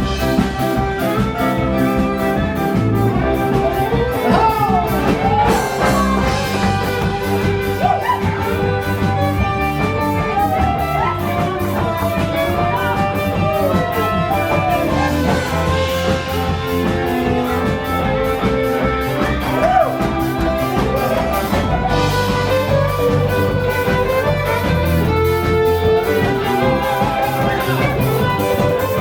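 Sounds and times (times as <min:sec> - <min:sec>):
band playing instrumental song: 0:00.0 - 0:29.0.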